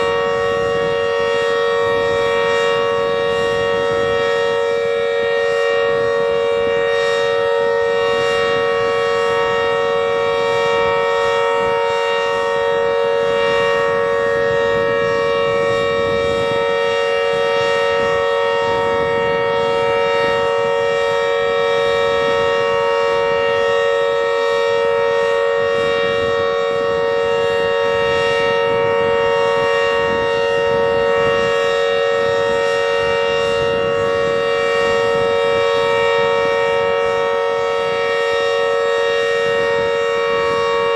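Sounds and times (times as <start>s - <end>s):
warning siren steady chord: 0.0s - 40.9s.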